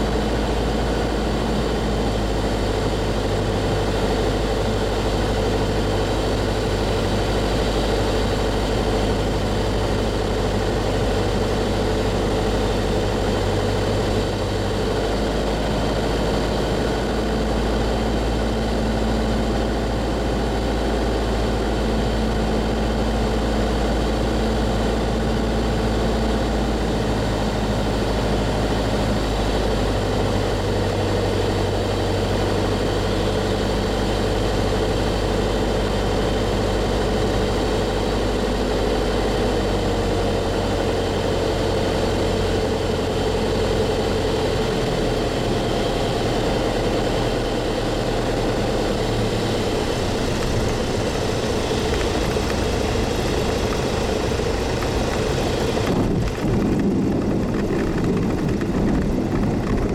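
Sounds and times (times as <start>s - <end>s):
aircraft engine and propeller droning: 0.0s - 59.9s.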